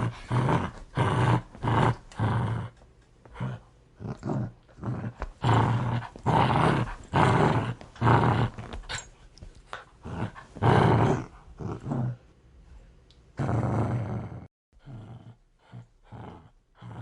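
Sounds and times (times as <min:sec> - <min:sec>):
dog growling: 0:00.0 - 0:09.1, 0:09.8 - 0:12.2, 0:13.4 - 0:17.0.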